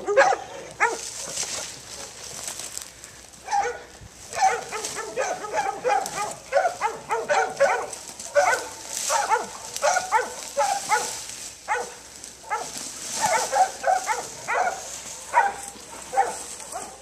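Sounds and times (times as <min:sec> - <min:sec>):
dogs barking: 0:00.0 - 0:02.1, 0:03.4 - 0:17.0.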